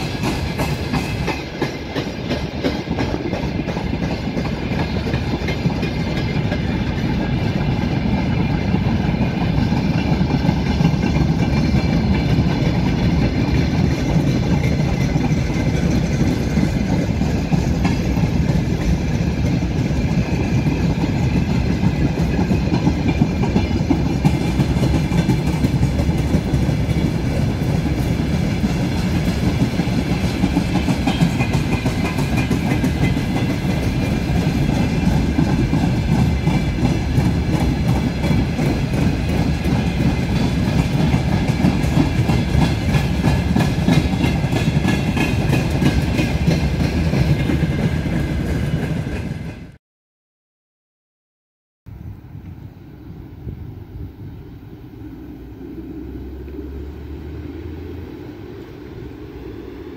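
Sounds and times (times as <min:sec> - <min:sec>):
wheels clattering over rail joints: 0:00.0 - 0:49.6
freight train rumbling: 0:00.0 - 0:49.8, 0:51.9 - 0:59.9.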